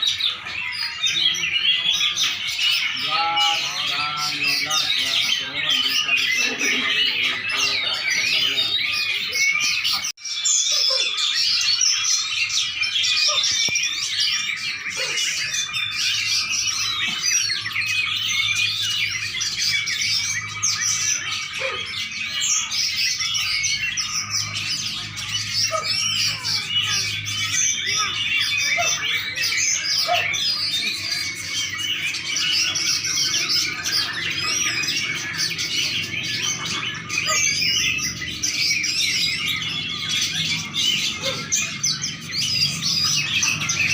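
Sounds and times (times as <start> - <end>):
songbird chirping and trilling: 0.0 - 43.9.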